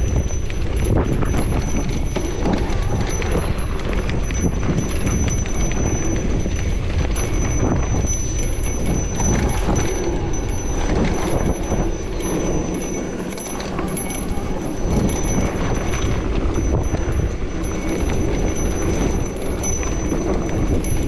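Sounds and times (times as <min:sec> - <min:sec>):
bike clattering over bumps: 0:00.0 - 0:21.0
tyres and wind rumbling: 0:00.0 - 0:21.0.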